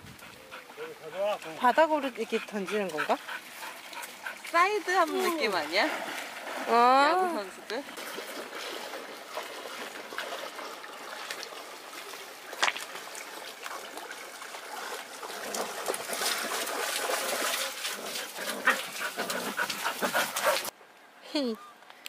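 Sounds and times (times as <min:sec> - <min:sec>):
river trickling: 0:00.0 - 0:20.7
dog splashing in water: 0:00.6 - 0:07.3, 0:07.9 - 0:20.7.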